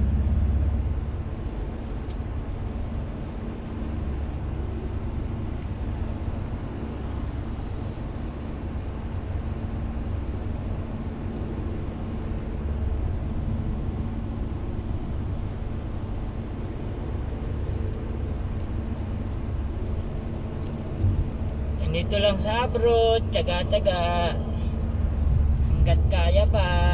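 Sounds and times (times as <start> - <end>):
vehicle engine and road rumble: 0.0 - 26.9.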